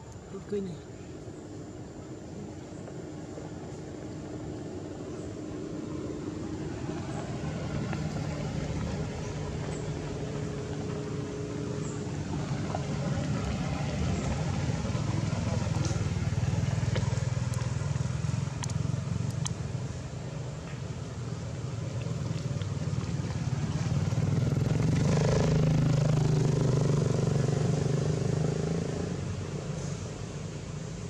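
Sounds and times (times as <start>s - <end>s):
vehicle engine approaching: 0.0s - 31.0s.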